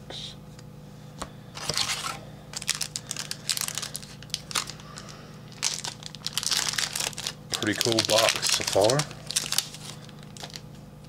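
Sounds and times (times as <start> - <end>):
plastic wrapper crinkling: 1.6 - 10.8.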